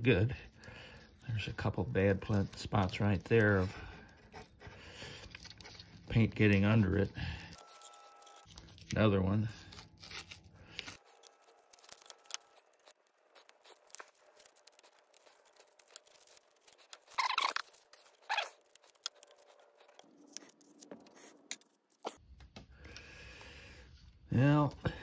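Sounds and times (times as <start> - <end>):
masking tape peeling: 0.5 - 22.2.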